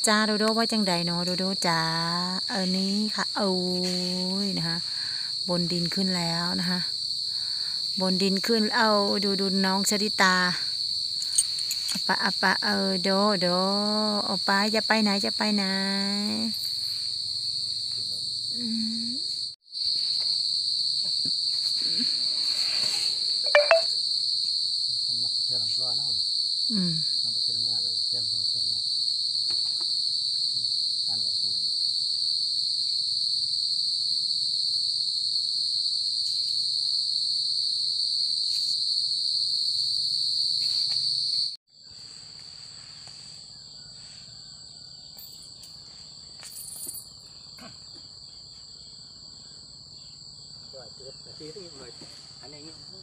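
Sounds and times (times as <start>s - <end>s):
loud insect chorus buzz: 0.0s - 53.0s.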